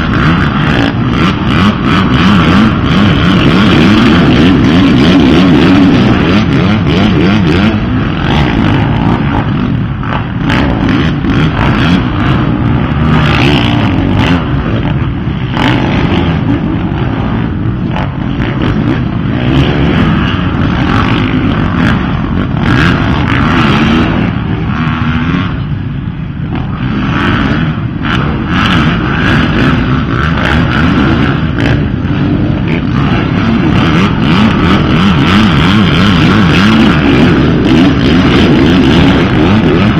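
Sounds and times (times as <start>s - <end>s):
dirt bike engines racing: 0.0s - 39.9s.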